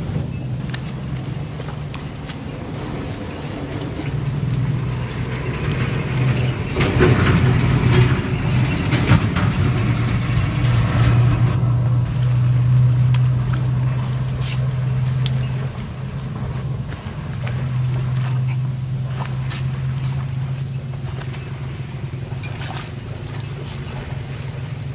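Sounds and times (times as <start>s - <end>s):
engine idling hum: 0.0s - 24.9s.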